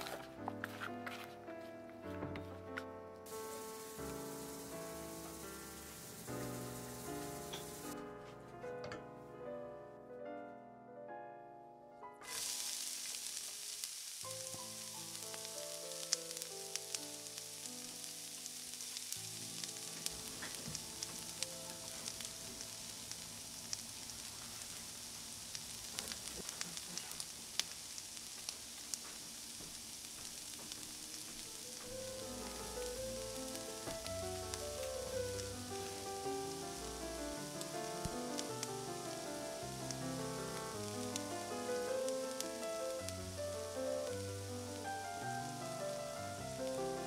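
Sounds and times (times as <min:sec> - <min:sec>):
soft piano music: 0:00.0 - 0:26.4, 0:30.2 - 0:47.0
butter sizzling in a skillet: 0:03.3 - 0:08.0, 0:12.2 - 0:47.0.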